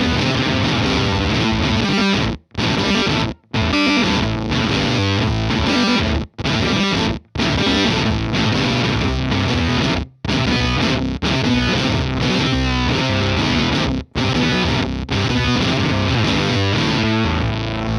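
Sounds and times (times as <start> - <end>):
distorted electric guitar riff: 0.0 - 17.9.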